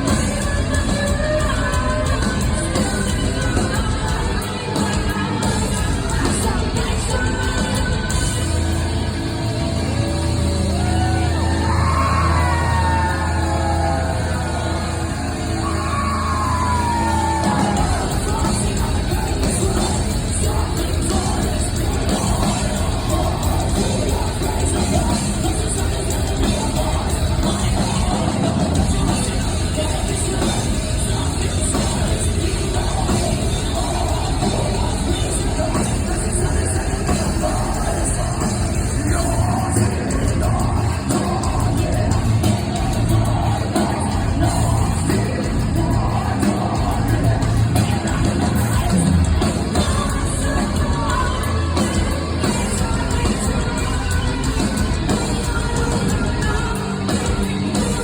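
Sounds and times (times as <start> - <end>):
metal band playing: 0.0 - 58.0
person singing: 0.0 - 58.0.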